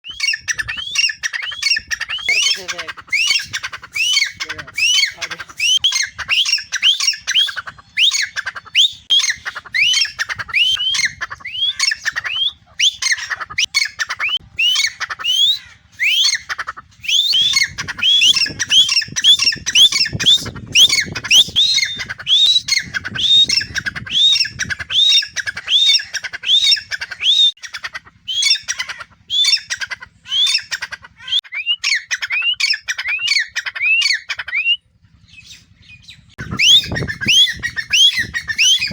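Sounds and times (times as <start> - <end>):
partridges calling: 0.0 - 38.9.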